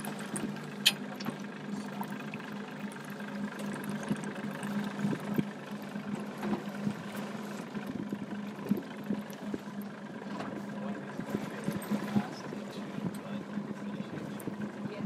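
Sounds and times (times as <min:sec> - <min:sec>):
boat motor humming: 0:00.0 - 0:15.0
water noise: 0:00.0 - 0:15.0.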